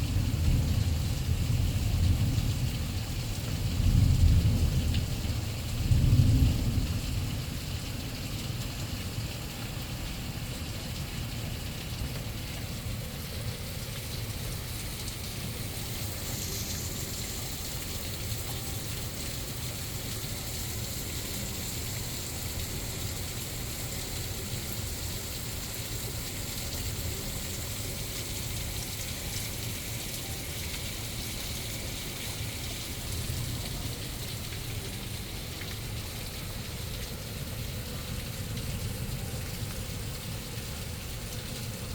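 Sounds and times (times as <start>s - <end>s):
floodwater rushing: 0.0s - 41.9s
rain falling: 0.0s - 41.9s.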